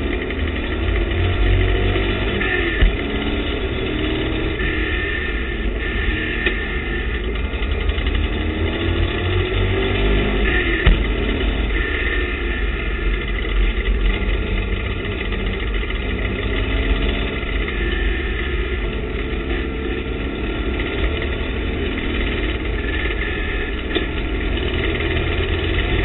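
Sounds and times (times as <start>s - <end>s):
race car engine under power: 0.0s - 26.0s
road noise: 0.0s - 26.0s.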